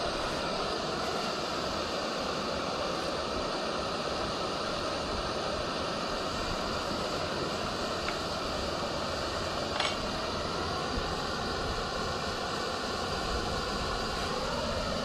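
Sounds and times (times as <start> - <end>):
camp stove burner hissing: 0.0 - 15.0.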